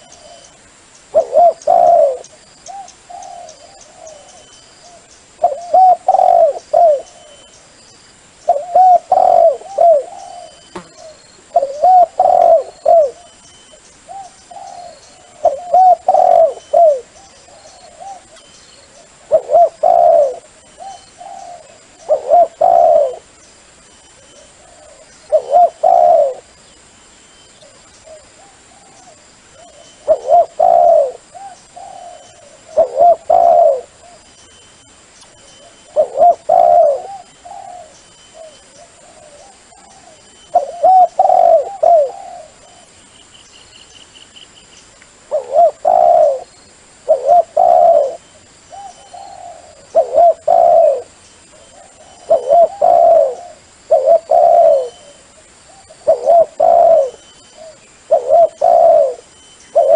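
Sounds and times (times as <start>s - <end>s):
dove cooing: 1.1s - 7.5s, 8.5s - 13.4s, 14.1s - 23.3s, 24.2s - 26.6s, 27.6s - 34.3s, 35.6s - 42.9s, 45.3s - 59.9s.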